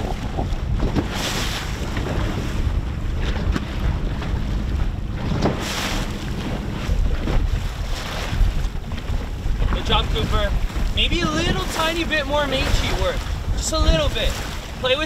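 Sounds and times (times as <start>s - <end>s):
steady rumble: 0.0s - 15.0s
waves splashing: 0.0s - 15.0s
wind buffeting microphone: 0.0s - 15.0s.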